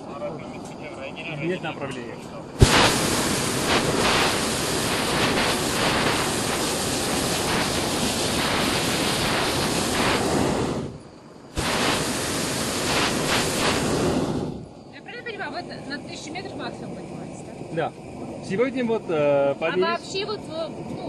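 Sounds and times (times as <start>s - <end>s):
propane burner hissing: 0.0s - 21.0s.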